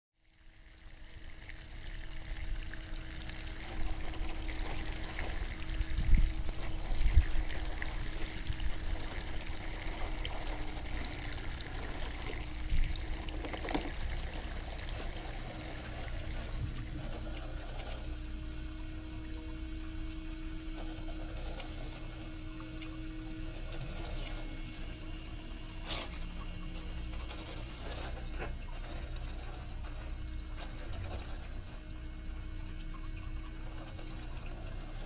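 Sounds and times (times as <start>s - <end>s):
water trickling over pebbles: 0.2s - 35.0s
low hum: 0.6s - 35.0s.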